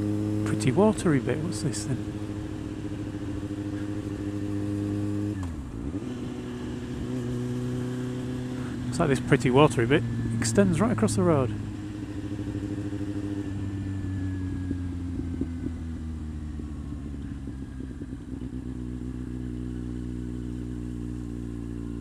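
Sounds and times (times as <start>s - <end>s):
motorcycle engine idling: 0.0s - 4.7s, 5.5s - 22.0s.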